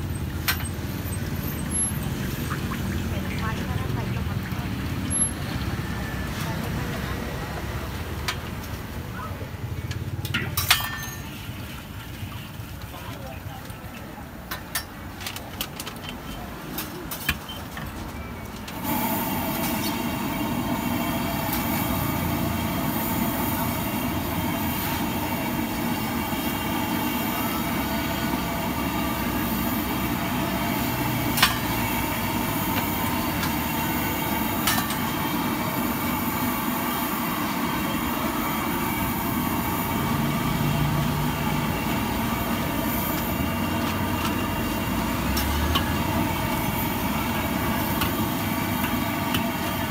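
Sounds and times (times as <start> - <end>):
gas burner roaring: 0.0 - 16.1, 18.5 - 49.9.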